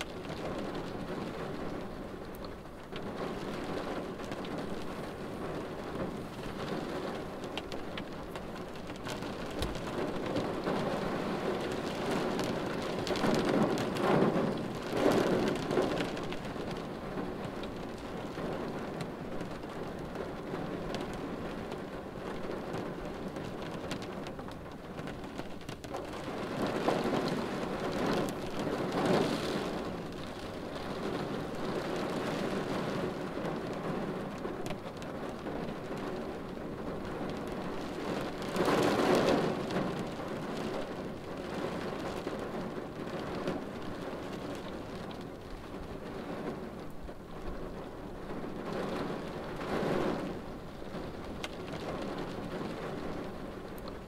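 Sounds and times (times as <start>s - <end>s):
rain drumming on a windshield: 0.0s - 54.0s.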